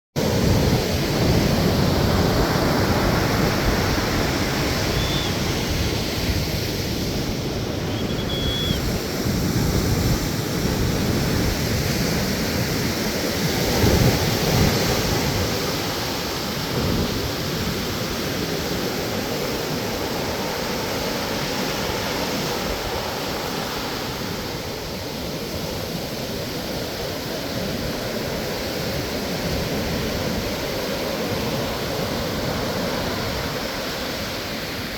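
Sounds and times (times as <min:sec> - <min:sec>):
ocean waves breaking: 0:00.2 - 0:34.9.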